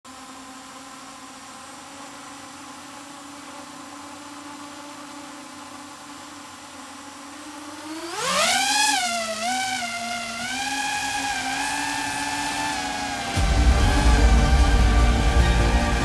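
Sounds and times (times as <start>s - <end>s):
drone motors humming at idle: 0.1s - 16.0s.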